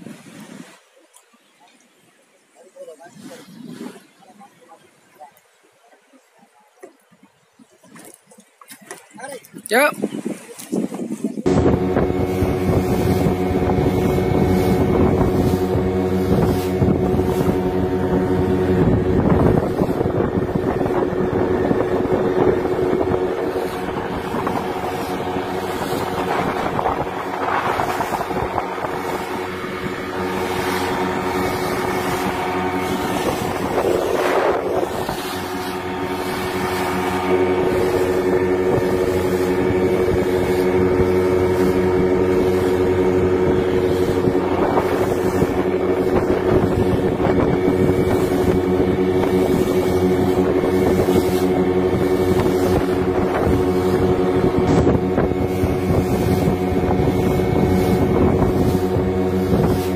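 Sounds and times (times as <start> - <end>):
wind on microphone: 0.0 - 0.8, 2.9 - 4.8, 8.8 - 59.9
water rushing past hull: 0.0 - 59.9
outboard motor running: 2.0 - 59.9.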